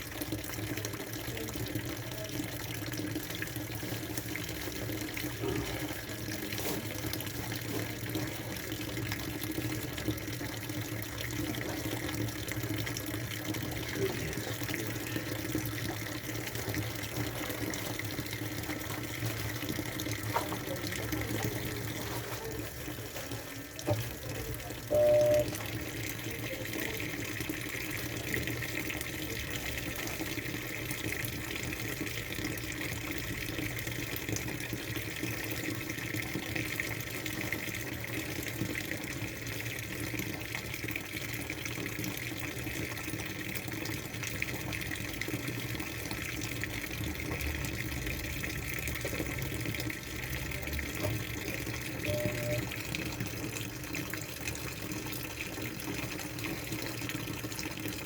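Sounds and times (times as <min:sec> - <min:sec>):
water running into washing machine: 0:00.0 - 0:58.0.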